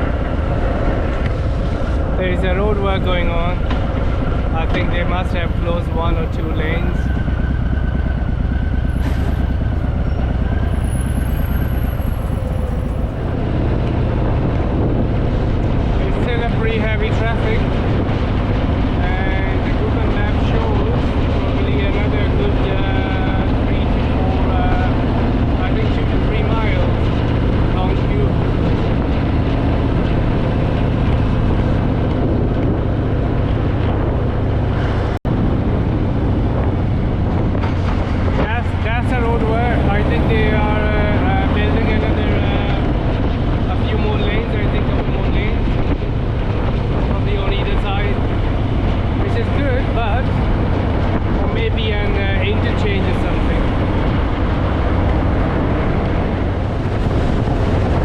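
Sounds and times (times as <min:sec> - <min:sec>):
motorcycle engine rumbling: 0:00.0 - 0:58.0
wind noise on microphone: 0:00.0 - 0:58.0.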